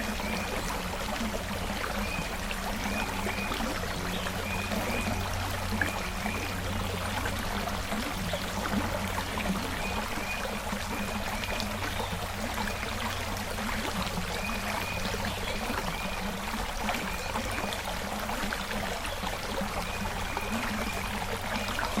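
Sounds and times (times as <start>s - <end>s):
creek water over stones: 0.0s - 22.0s.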